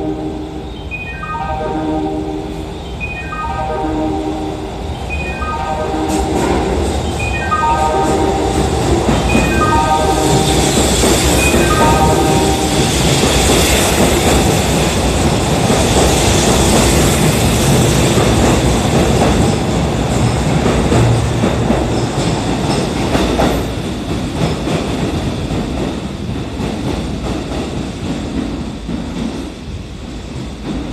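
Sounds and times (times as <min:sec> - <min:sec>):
electric train wheels on rails: 0:04.4 - 0:30.9.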